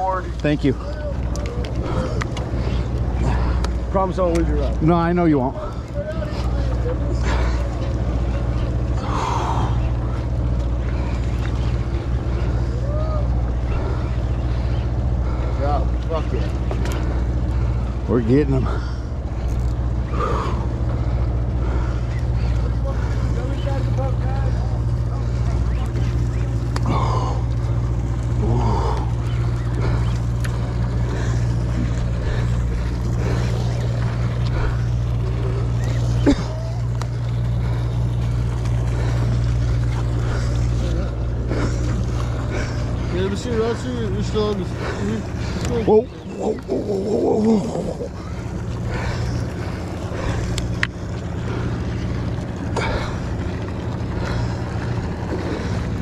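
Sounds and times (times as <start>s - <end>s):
faint voices: 0.0s - 55.8s
boat engine droning: 0.0s - 56.0s
sea water washing along hull: 0.0s - 56.0s.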